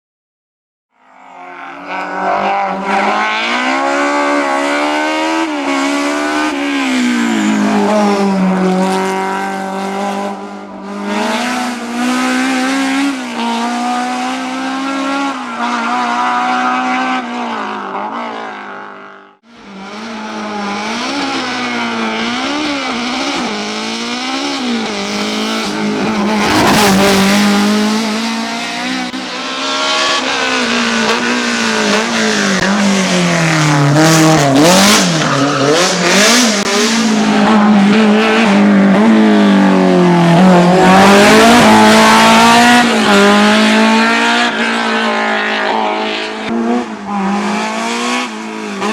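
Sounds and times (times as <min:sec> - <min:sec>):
race car engine revving: 0:01.1 - 0:48.9.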